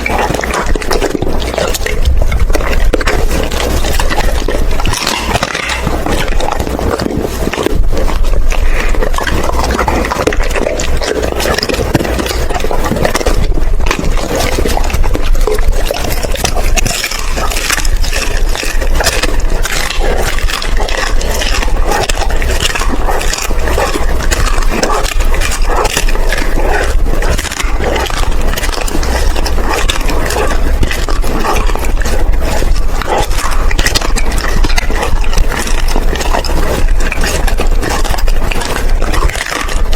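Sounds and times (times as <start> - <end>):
dog chewing and crunching: 0.0 - 39.9.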